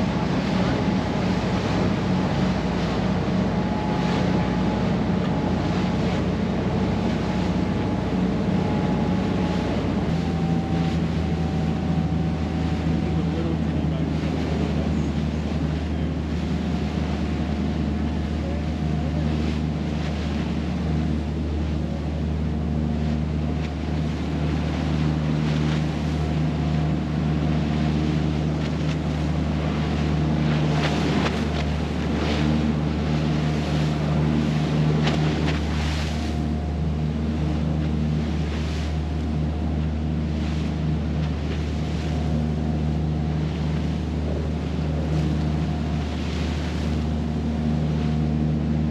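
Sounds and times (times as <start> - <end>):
motorboat engine running: 0.0 - 48.9
water splashing along hull: 0.0 - 48.9.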